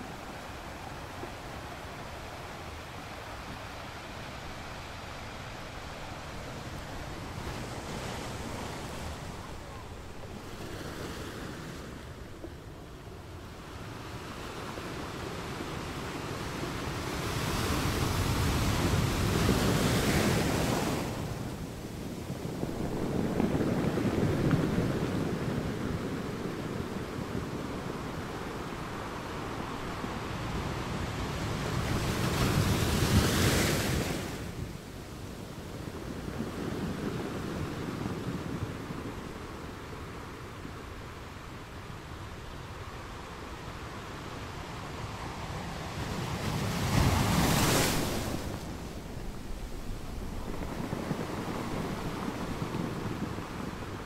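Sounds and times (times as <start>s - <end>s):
ocean surf rumbling: 0.0s - 54.0s
waves breaking on shore: 0.0s - 54.0s.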